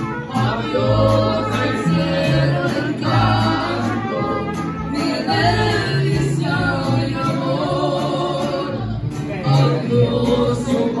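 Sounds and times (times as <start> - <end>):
band playing and singing: 0.0 - 11.0.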